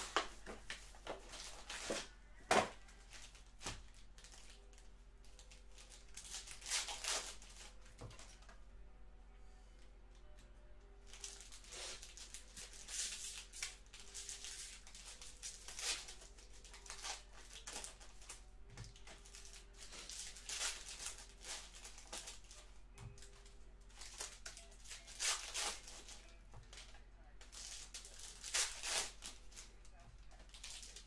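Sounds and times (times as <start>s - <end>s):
card wrappers tearing and crinkling: 0.0s - 8.3s, 11.1s - 29.7s, 30.3s - 31.0s.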